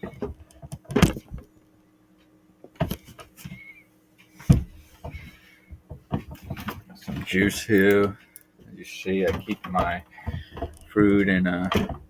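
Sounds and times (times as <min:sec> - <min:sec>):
cartons clicking and rustling: 0:00.0 - 0:01.5, 0:02.7 - 0:12.0
faint steady hum: 0:00.0 - 0:12.0.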